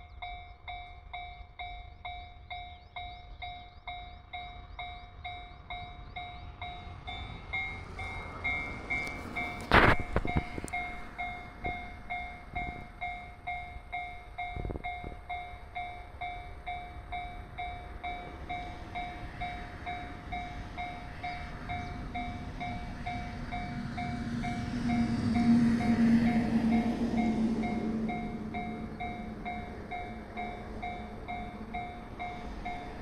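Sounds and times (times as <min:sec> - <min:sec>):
electric train approaching: 0:00.0 - 0:33.0.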